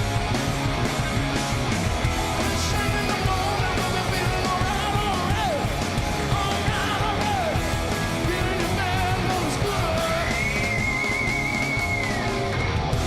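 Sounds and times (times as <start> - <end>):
drums: 0.0 - 13.0
lead guitar line: 0.0 - 13.0
rock band playing live: 0.0 - 13.0.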